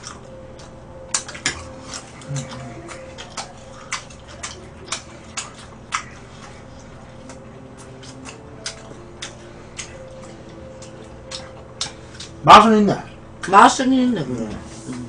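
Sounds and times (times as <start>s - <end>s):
close-up chewing: 0.0s - 12.6s
faint steady hum: 0.0s - 15.0s.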